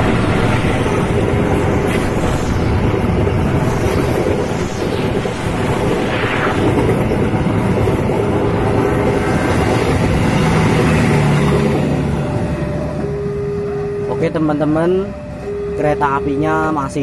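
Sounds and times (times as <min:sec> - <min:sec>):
train coaches rushing past: 0:00.0 - 0:15.8.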